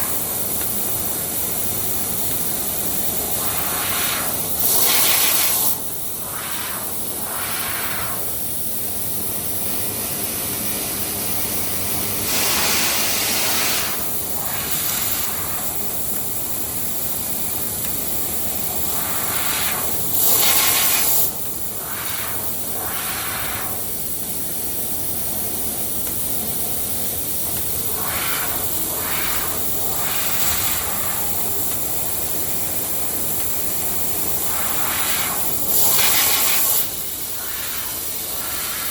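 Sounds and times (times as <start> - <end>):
laser cutter gas hiss: 0.0 - 38.9.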